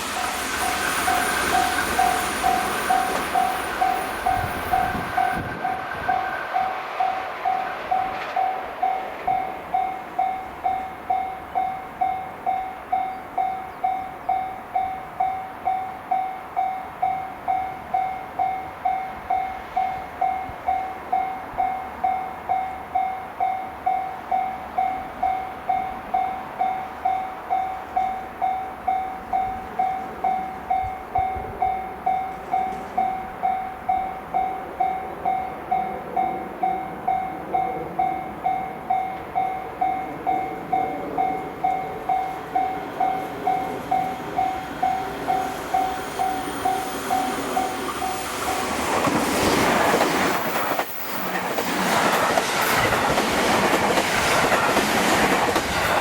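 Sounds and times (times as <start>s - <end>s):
faint rail noise: 0.0s - 56.0s
electronic crossing bell ding: 0.1s - 48.7s.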